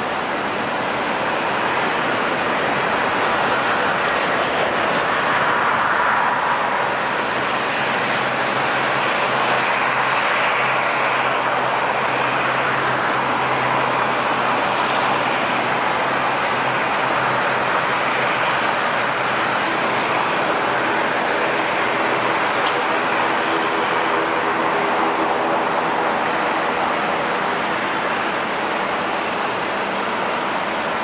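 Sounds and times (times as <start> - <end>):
jet engines idling: 0.0 - 31.0.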